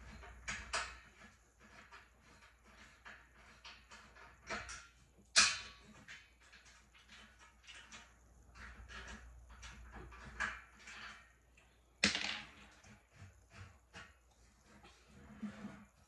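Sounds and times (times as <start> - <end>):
bed frame parts clicking and knocking: 0.0 - 16.0.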